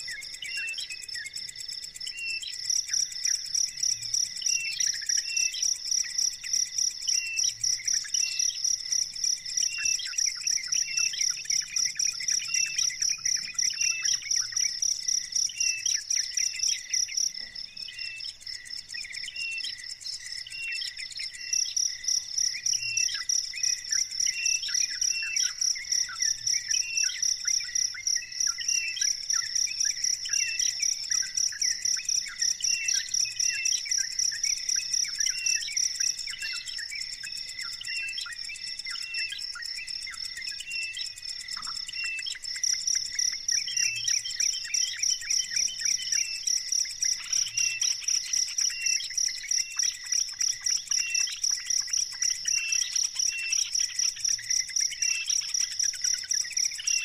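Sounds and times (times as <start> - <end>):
cricket trilling: 0.0 - 57.0.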